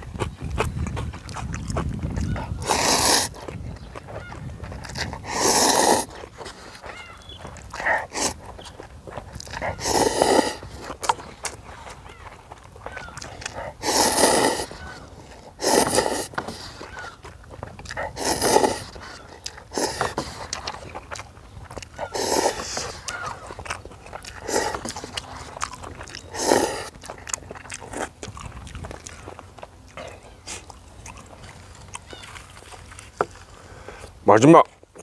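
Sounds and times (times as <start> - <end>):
noodles being slurped: 0.0 - 34.2.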